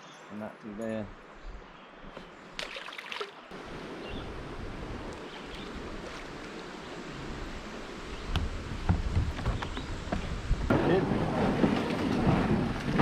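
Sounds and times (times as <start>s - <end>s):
water rushing around kayak: 2.6s - 13.0s.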